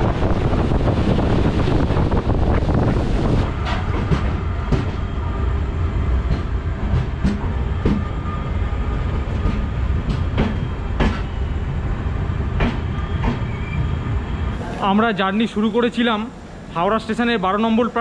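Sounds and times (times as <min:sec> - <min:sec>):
train low rumble: 0:00.0 - 0:15.2.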